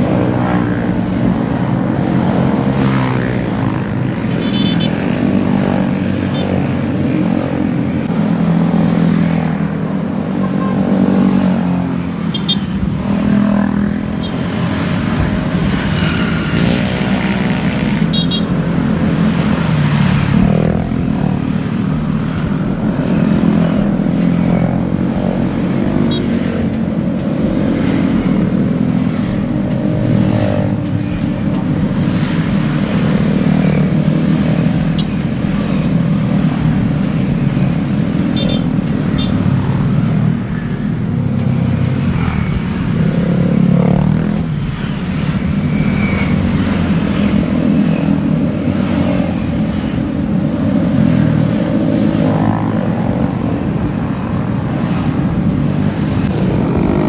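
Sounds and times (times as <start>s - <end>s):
scooters and motorcycles passing: 0.0s - 57.0s.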